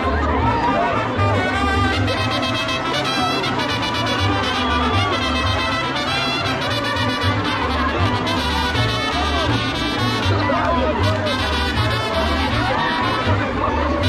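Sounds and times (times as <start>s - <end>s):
brass band playing: 0.0s - 14.0s
trumpets and trombones: 0.0s - 14.0s.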